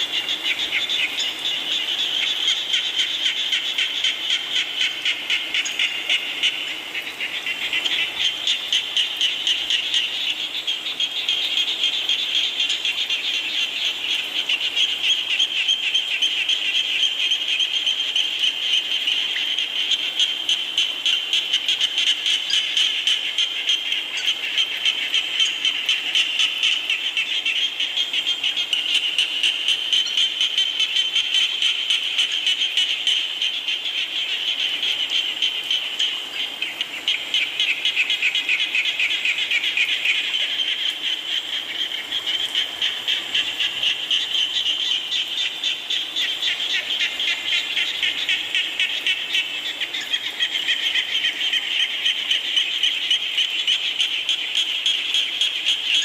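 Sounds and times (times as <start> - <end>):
rain falling: 0.0 - 54.7
frogs calling: 0.0 - 56.0.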